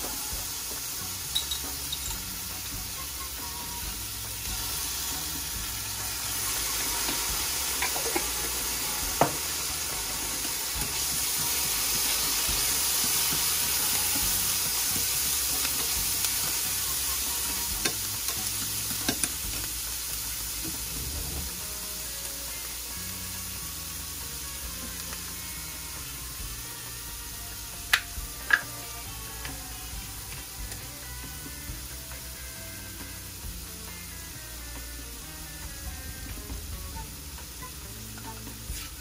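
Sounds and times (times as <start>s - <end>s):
onion sizzling in a frying pan: 0.0s - 39.0s.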